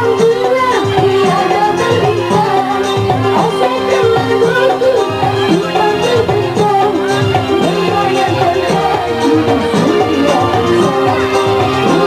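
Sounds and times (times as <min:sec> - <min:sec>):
woman singing with a band: 0:00.0 - 0:12.0.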